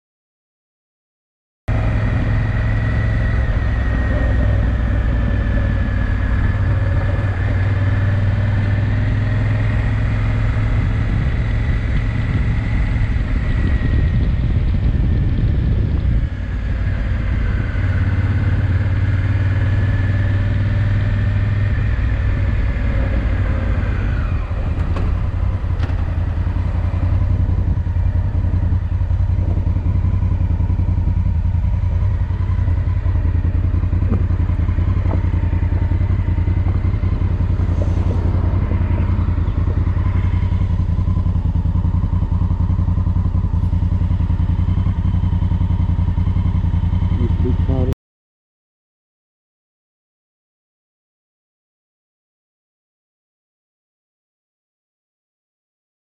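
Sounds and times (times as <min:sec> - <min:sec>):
motorcycle engine running: 0:01.7 - 0:48.0.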